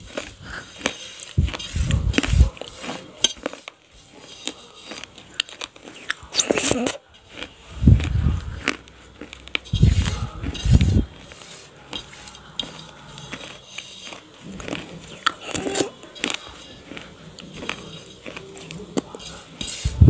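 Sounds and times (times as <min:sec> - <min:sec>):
fingers scraping clay on metal: 0:00.6 - 0:07.3, 0:09.6 - 0:20.0.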